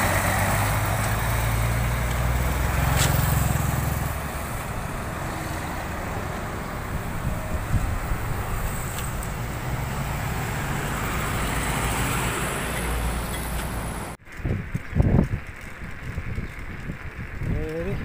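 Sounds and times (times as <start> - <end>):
low wind thumps: 0.0 - 18.0
road traffic passing: 0.0 - 18.0
wind noise on microphone: 0.1 - 18.0.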